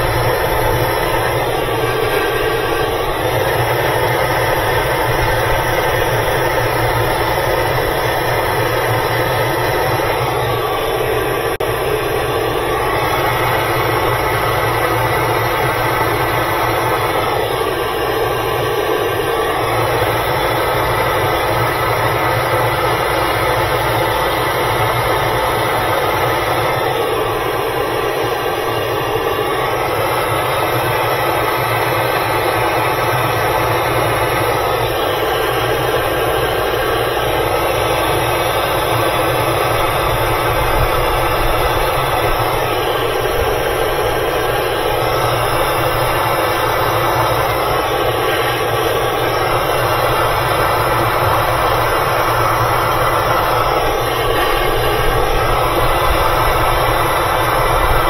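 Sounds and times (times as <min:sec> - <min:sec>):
heating tool rushing hum: 0:00.0 - 0:58.0.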